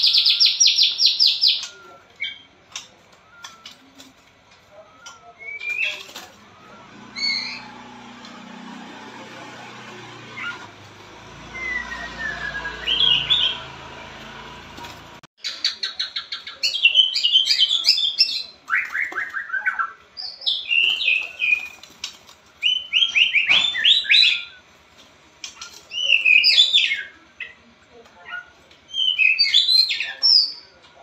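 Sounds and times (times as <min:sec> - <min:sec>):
songbird singing: 0:00.0 - 0:08.1, 0:11.4 - 0:14.4, 0:15.4 - 0:24.7, 0:25.5 - 0:30.8.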